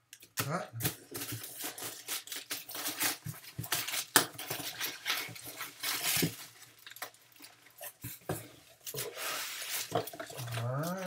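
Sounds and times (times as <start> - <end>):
cardboard rustling and scraping: 1.0 - 6.8, 7.4 - 11.0.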